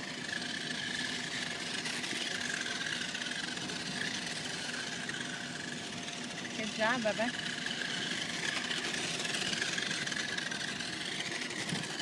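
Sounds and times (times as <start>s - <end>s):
toy car motors whirring: 0.0s - 12.0s.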